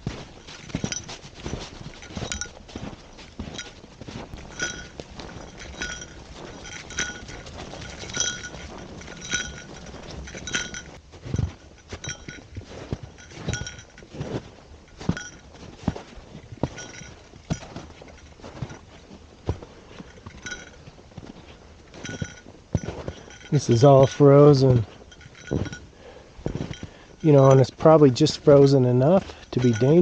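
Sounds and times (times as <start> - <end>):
footsteps on trail: 0.0 - 30.0
small metal bell chiming: 0.1 - 15.7, 16.6 - 19.0, 20.0 - 21.0, 21.9 - 30.0.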